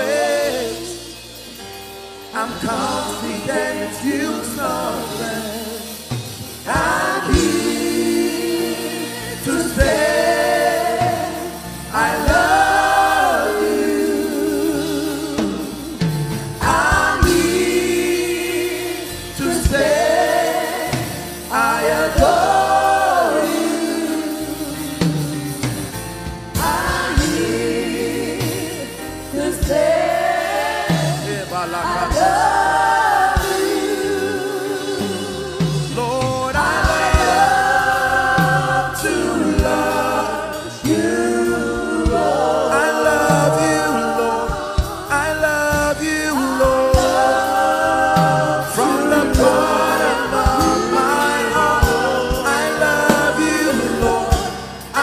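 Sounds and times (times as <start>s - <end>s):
choir singing gospel song: 0.0s - 55.0s
musical accompaniment: 0.0s - 55.0s.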